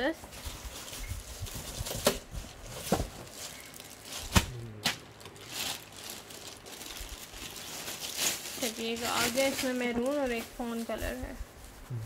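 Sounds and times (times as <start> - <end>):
plastic bag rustling and crinkling: 0.0 - 11.9.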